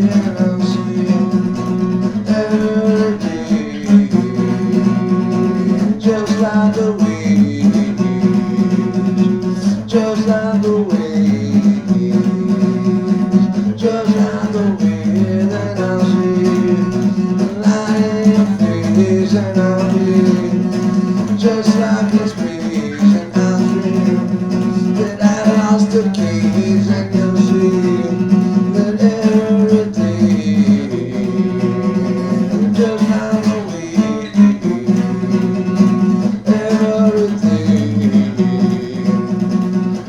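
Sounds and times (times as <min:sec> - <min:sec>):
acoustic guitar playing: 0:00.0 - 0:40.0
person singing: 0:00.0 - 0:40.0.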